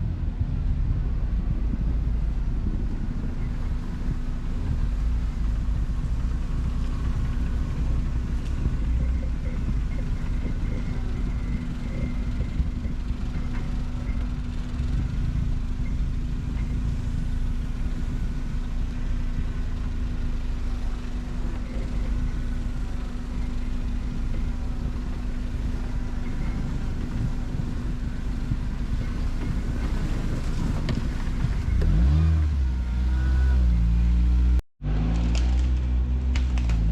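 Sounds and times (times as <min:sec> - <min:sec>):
quad bike engine rumbling: 0:00.0 - 0:36.9.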